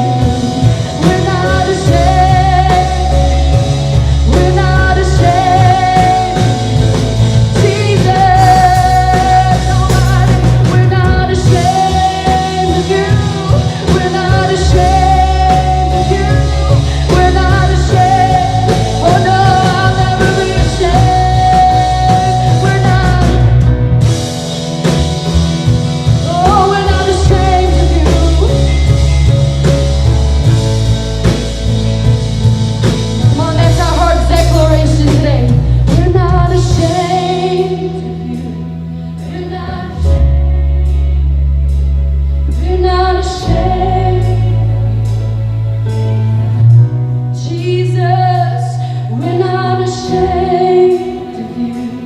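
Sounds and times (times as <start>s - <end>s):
worship band playing: 0.0s - 52.0s.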